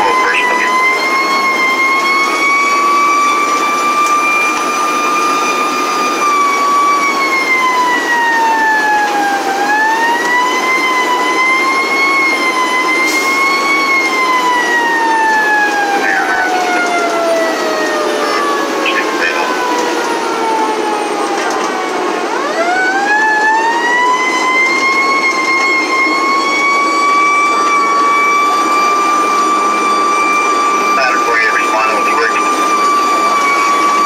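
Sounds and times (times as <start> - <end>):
fire truck siren wailing: 0.0 - 34.0
truck engine and road noise: 0.0 - 34.0.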